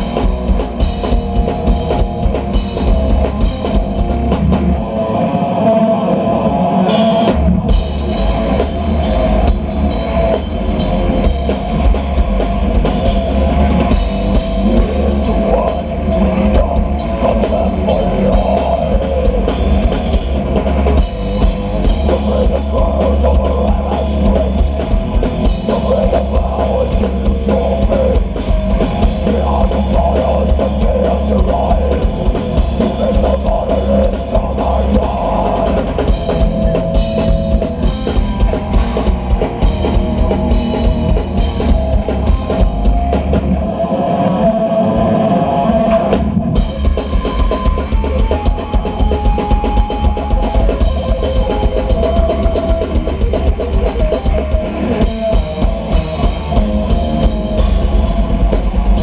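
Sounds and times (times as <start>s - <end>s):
metal band playing live: 0.0s - 59.0s.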